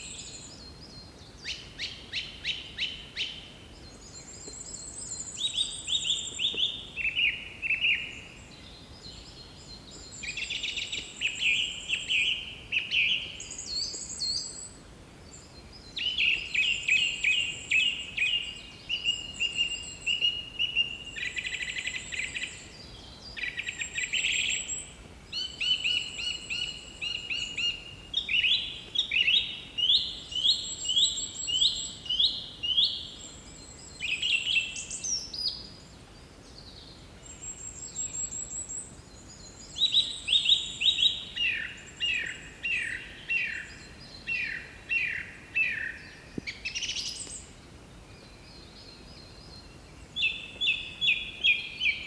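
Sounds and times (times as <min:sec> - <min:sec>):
songbird chirping: 0:00.0 - 0:52.0.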